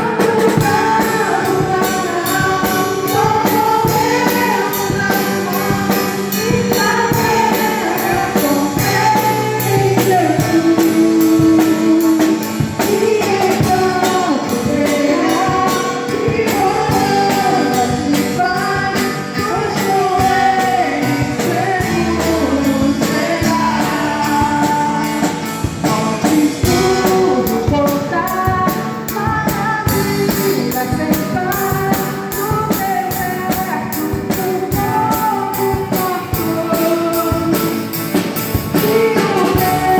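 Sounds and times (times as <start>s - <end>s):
group singing a hymn: 0.0s - 29.1s, 34.4s - 39.9s
instrumental accompaniment: 0.0s - 39.9s
steady percussion beat: 0.0s - 39.9s.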